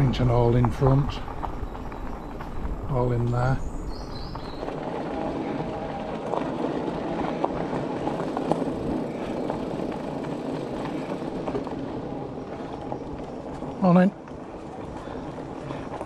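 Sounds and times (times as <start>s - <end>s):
bike tyres crunching on gravel: 0.0s - 16.0s.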